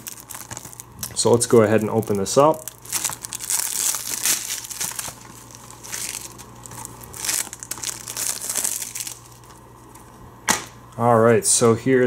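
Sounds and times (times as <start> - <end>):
plastic wrap crinkling: 0.0 - 10.2.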